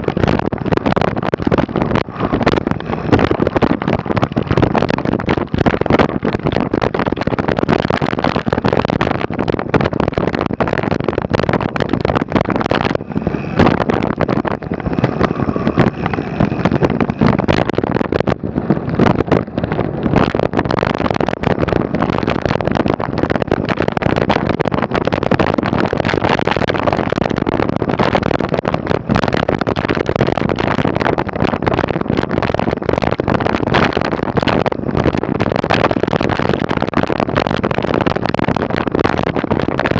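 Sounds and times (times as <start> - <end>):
bike tyre noise: 0.0 - 39.9
rattling knocks from bike: 0.0 - 39.9
wind buffeting microphone: 0.0 - 39.9.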